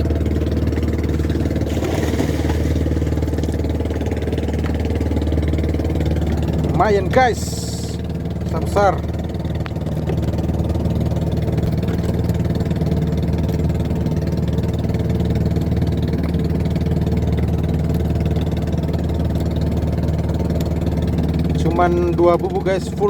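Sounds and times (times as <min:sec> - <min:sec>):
small engine idling: 0:00.0 - 0:23.0.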